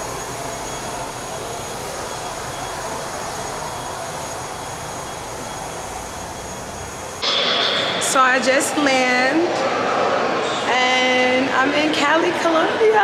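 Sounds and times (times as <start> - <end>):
faint high whine: 0.0 - 11.6.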